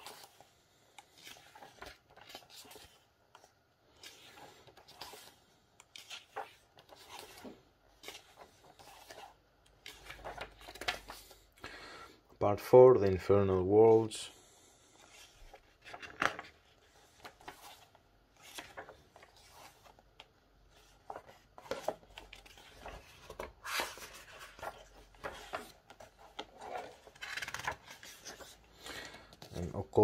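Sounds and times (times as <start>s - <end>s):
book pages turning: 0.0s - 11.6s, 15.0s - 30.0s.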